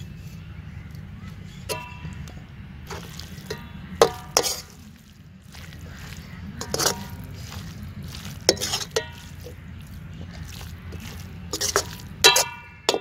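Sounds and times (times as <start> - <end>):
steel ladle scraping and clanking: 1.6 - 13.0.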